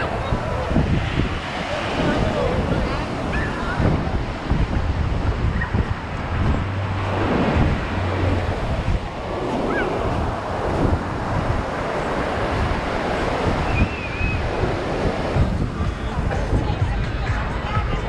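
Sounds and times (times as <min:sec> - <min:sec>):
ocean surf breaking: 0:00.0 - 0:18.0
wind rumbling on microphone: 0:00.0 - 0:18.0.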